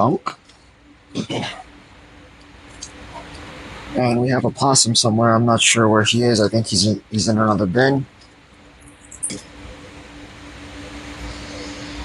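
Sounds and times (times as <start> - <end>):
three d printers humming: 0.0 - 12.0.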